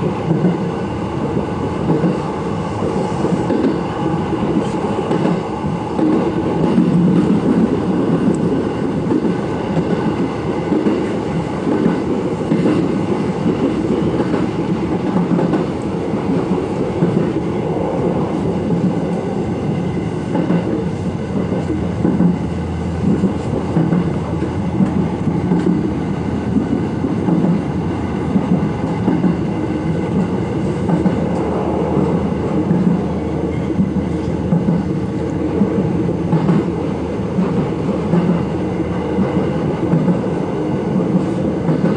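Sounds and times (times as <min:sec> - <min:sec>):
train wheels rumbling: 0:00.0 - 0:41.9.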